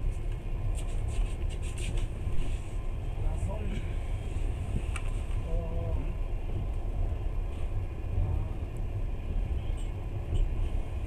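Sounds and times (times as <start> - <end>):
train rumbling inside carriage: 0.0 - 11.0.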